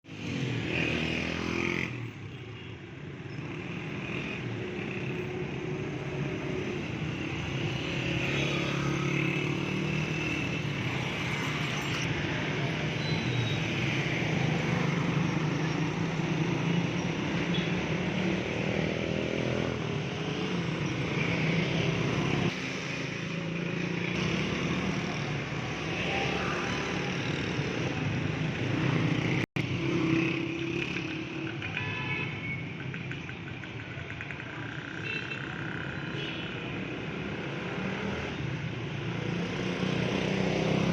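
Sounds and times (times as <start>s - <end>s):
motorcycles passing: 0.1s - 2.2s, 3.3s - 36.2s, 36.8s - 40.9s.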